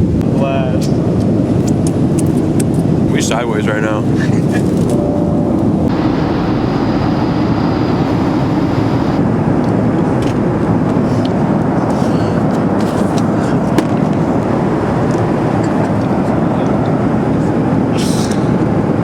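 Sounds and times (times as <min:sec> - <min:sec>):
jet engines and airflow rushing: 0:00.0 - 0:19.0.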